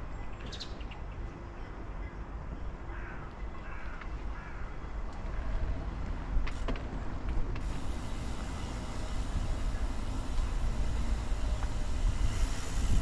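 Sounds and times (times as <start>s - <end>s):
wind and tyre rumble: 2.3s - 13.0s.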